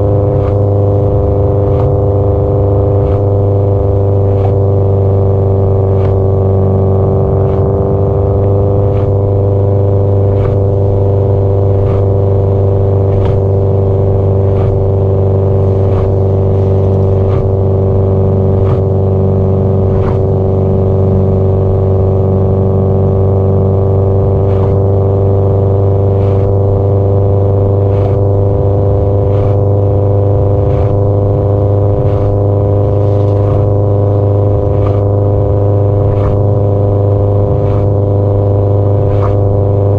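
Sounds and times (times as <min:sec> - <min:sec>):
car exhaust rumble: 0:00.0 - 0:39.9.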